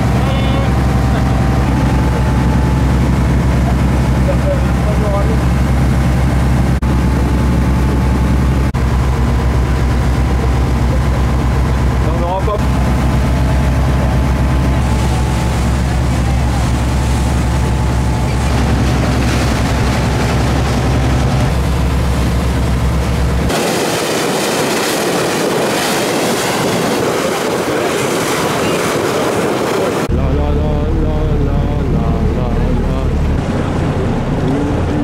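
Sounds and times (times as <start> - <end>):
hiss of wind and water: 0.0 - 30.1
boat engine humming: 0.0 - 35.0
water rushing along hull: 0.0 - 35.0.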